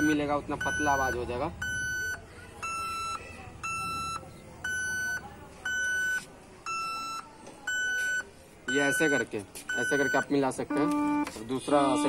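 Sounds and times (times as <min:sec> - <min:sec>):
short electronic beeps: 0:00.0 - 0:11.3.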